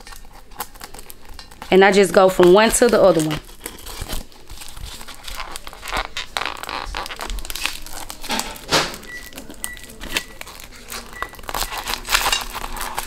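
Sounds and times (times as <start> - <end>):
foil and tissue paper crinkling: 0.0 - 13.0.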